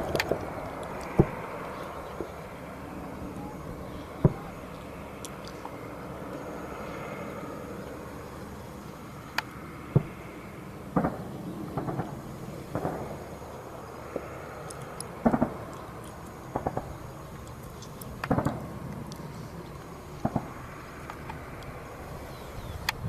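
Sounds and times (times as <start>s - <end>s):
distant anti-aircraft gunfire: 0.0s - 8.2s, 9.2s - 17.4s, 18.1s - 19.1s, 20.0s - 22.2s
low background rumble: 0.0s - 23.0s.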